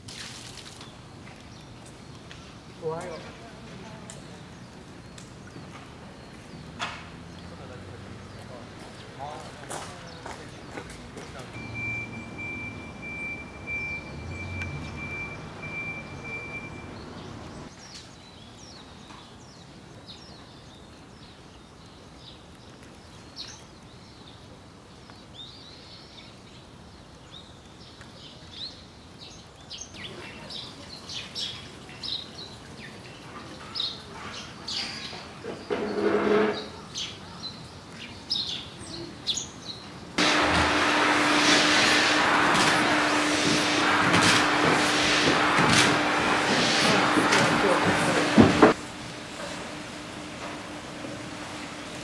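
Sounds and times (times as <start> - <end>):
birds chirping: 0.6 - 48.8.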